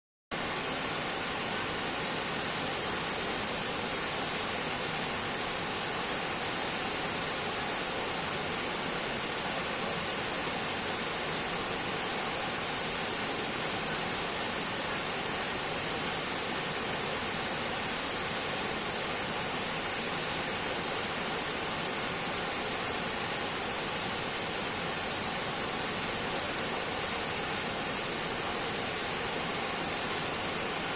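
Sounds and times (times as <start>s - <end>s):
waterfall rushing: 0.4s - 30.9s.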